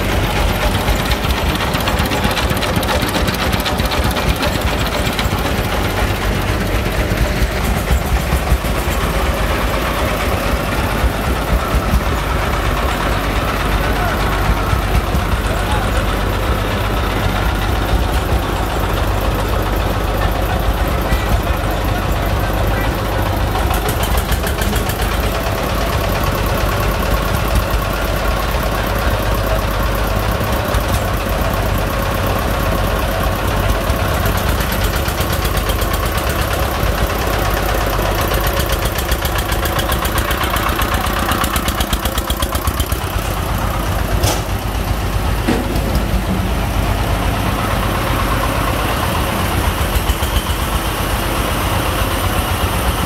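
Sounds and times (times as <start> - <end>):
diesel engine chugging: 0.0 - 53.0.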